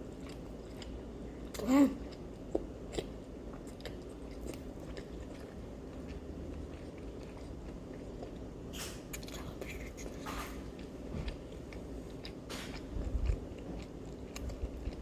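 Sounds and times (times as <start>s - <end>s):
crunchy chewing of fried food: 0.0s - 15.0s.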